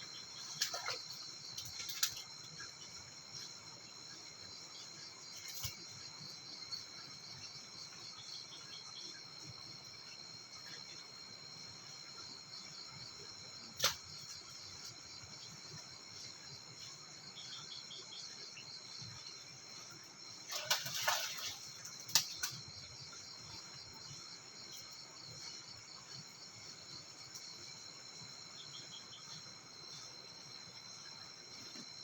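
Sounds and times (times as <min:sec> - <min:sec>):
crickets and insects chirring: 0:00.0 - 0:32.0.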